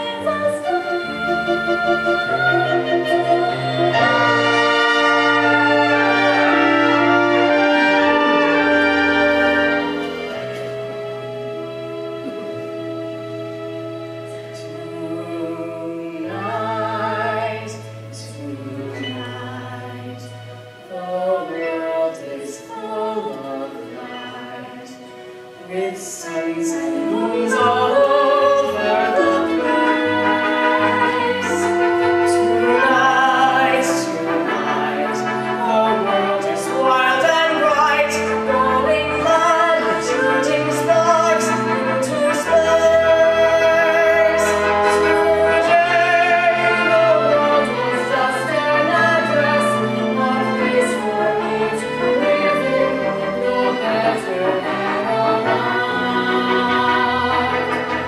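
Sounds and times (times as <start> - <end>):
man and woman singing duet: 0.0 - 10.4, 12.1 - 58.0
instrumental accompaniment: 0.0 - 58.0.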